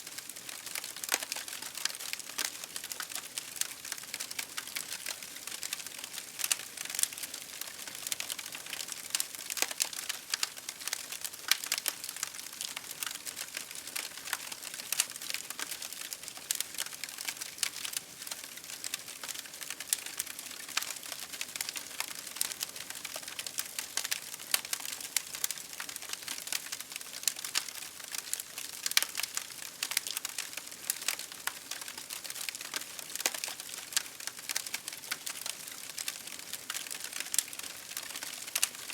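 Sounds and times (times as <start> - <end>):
campfire crackling: 0.1 - 38.9.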